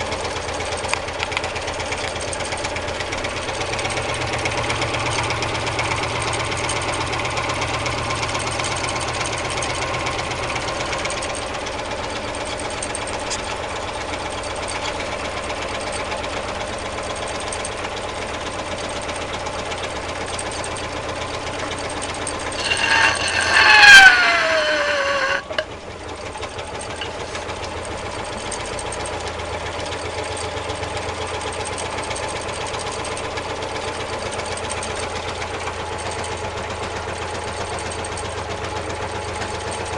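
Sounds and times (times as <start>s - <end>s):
stirling engine mechanical clatter: 0.0s - 39.9s.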